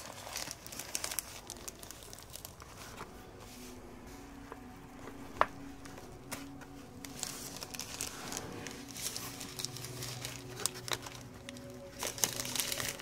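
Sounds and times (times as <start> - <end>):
plastic bag crinkling: 0.0 - 3.4, 5.5 - 13.0.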